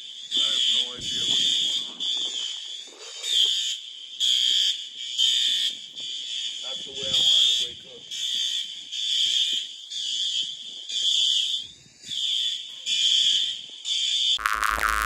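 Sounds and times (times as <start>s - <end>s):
fire alarm beeping: 0.0s - 15.0s.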